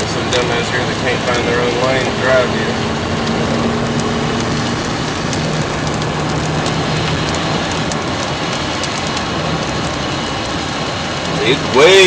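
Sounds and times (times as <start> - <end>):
rain falling: 0.0 - 12.0
raindrops ticking: 0.0 - 12.0.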